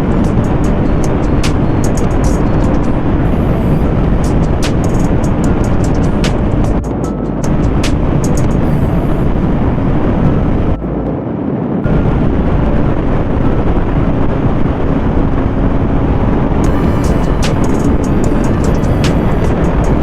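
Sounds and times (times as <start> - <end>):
wind rush: 0.0 - 20.0.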